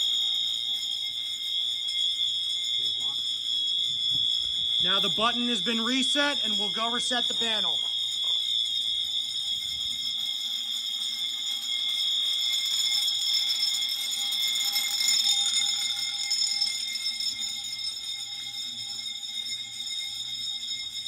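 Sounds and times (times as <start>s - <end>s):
high-pitched alarm tone: 0.0s - 21.0s.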